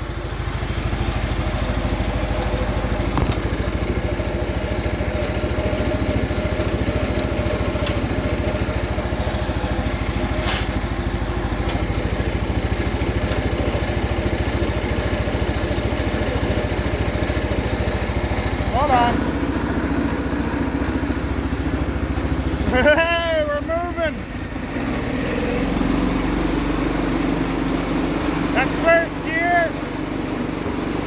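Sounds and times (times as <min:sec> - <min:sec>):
tractor engine running steadily: 0:00.0 - 0:31.0.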